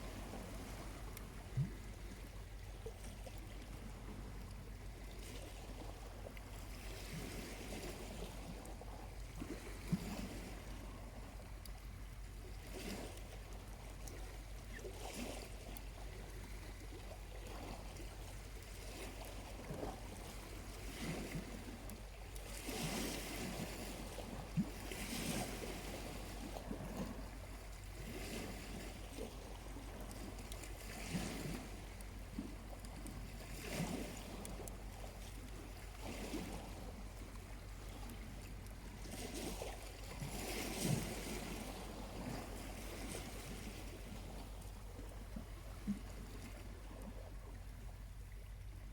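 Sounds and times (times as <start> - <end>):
small waves breaking on beach: 0.0 - 48.9.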